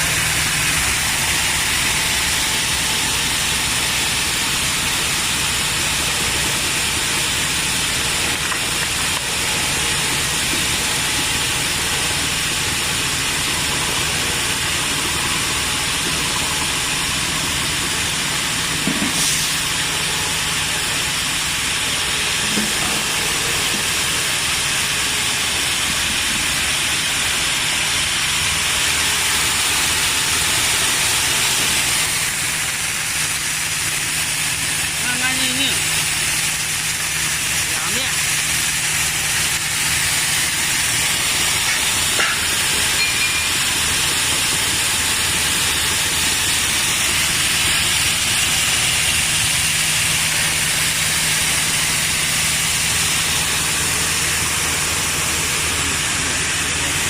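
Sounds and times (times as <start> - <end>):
rice milling machine running: 0.0 - 57.0.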